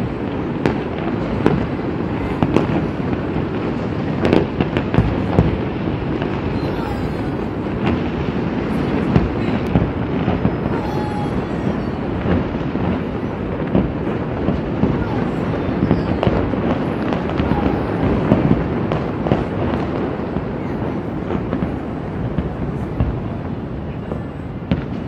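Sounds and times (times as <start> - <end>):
fireworks bursts and crackle: 0.0 - 25.0
sharp firework bangs: 0.0 - 25.0.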